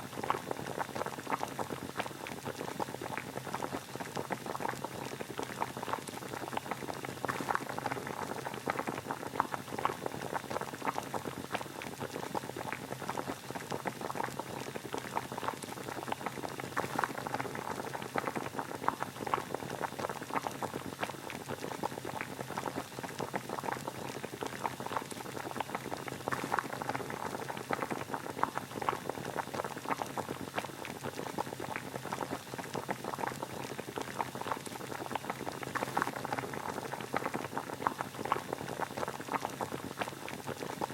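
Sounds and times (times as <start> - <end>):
water boiling: 0.0 - 40.9.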